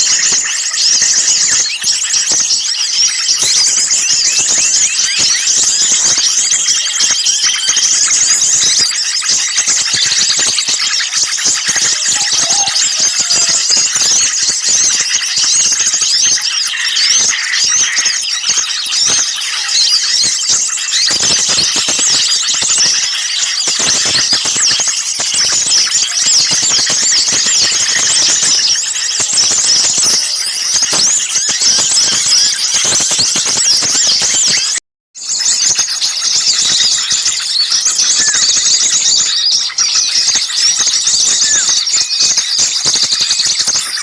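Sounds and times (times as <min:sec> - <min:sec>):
chorus of small songbirds chirping: 0:00.0 - 0:44.0.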